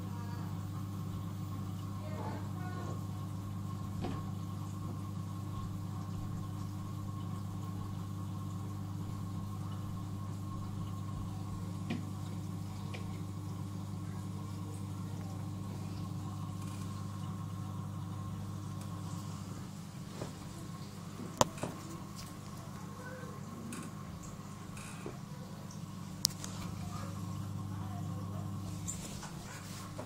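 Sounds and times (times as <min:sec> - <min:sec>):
aquarium pump humming: 0:00.0 - 0:30.0.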